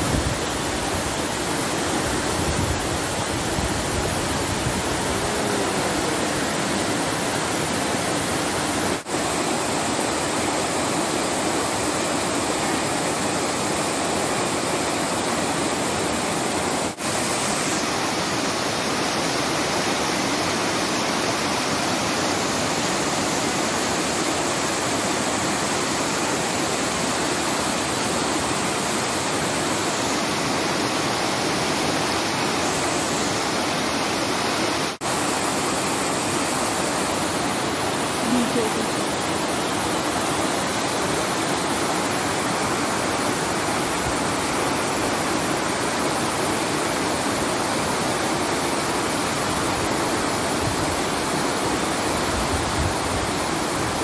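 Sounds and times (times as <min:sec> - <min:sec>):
waterfall pouring over rocks: 0:00.0 - 0:54.0.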